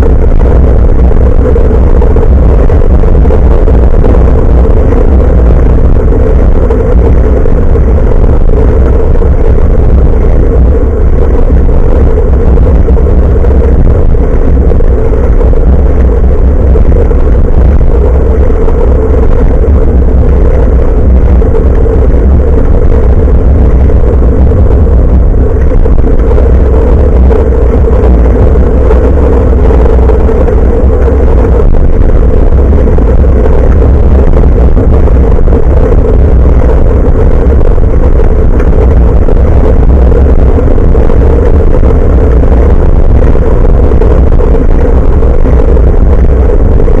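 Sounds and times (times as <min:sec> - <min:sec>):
mid-pitched hum: 0:00.0 - 0:47.0
road rumble: 0:00.0 - 0:47.0
wind noise on microphone: 0:00.0 - 0:47.0.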